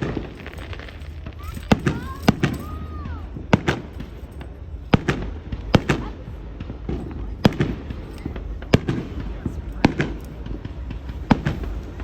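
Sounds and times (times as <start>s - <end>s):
firework pops and crackles: 0.0s - 12.0s
loud firework bangs: 0.0s - 12.0s.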